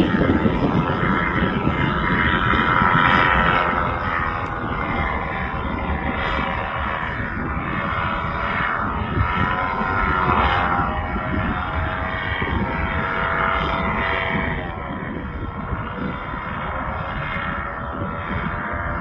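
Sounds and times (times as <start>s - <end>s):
propeller aircraft droning overhead: 0.0s - 19.0s
rough low rumble: 0.0s - 19.0s.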